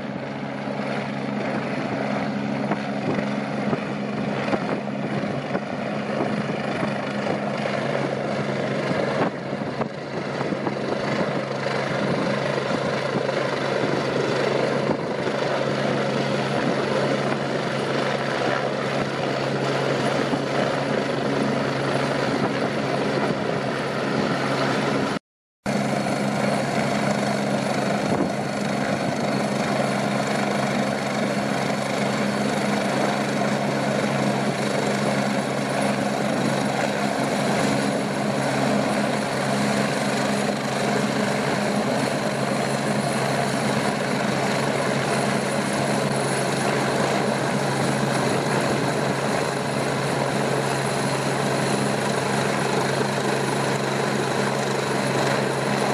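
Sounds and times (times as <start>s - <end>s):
helicopter rotor and turbine: 0.0s - 55.9s.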